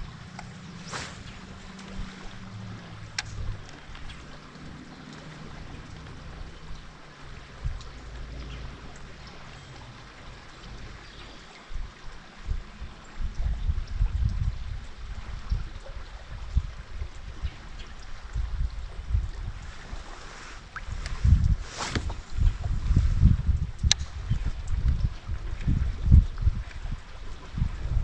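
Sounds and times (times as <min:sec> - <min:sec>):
water streaming and trickling: 0:00.0 - 0:28.0
wind buffeting microphone: 0:00.0 - 0:28.0.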